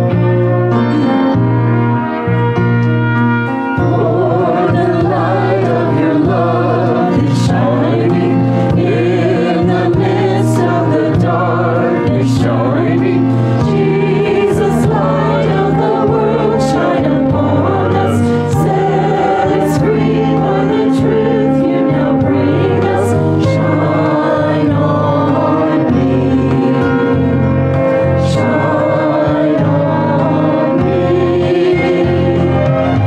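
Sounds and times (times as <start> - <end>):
choir singing gospel song: 3.4 - 33.0.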